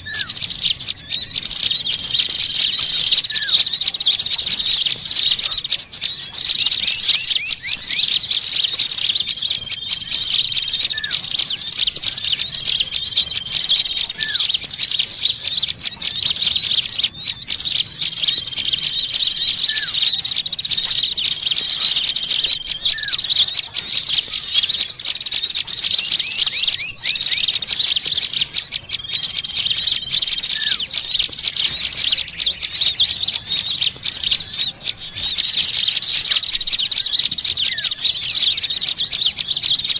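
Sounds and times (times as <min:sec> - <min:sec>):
small songbirds chattering: 0:00.0 - 0:39.9.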